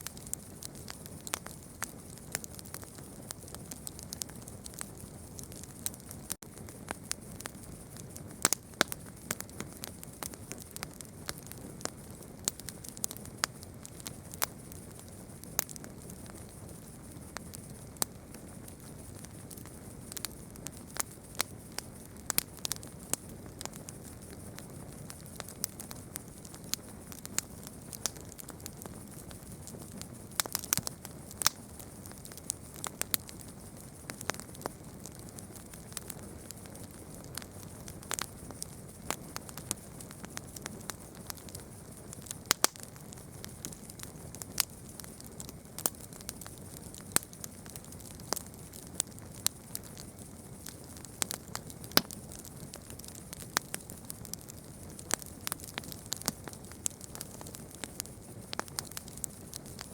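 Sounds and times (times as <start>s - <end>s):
burning wood popping: 0.0s - 59.9s
campfire crackling: 0.0s - 59.9s
soft fire hiss: 0.0s - 59.9s.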